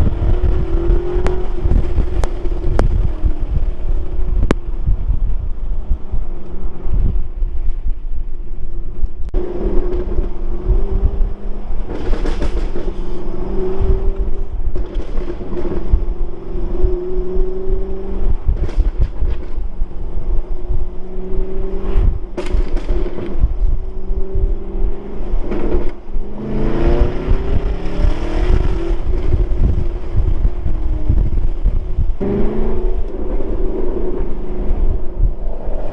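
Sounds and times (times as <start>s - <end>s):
car engine droning: 0.0s - 35.9s
exhaust crackles and pops: 0.0s - 35.9s.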